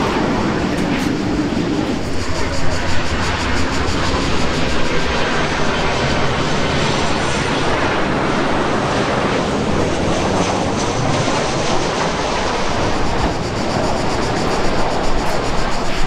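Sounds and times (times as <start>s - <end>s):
jet engines on landing approach: 0.0s - 16.0s.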